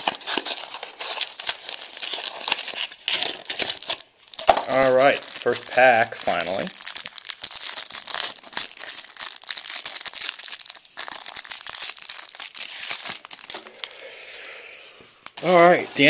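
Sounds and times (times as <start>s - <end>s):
foil wrapper crinkling: 0.0s - 14.0s.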